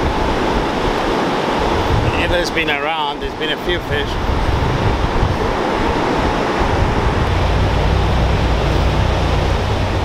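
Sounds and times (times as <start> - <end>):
surf breaking on beach: 0.0 - 10.0
wind buffeting microphone: 0.0 - 10.0.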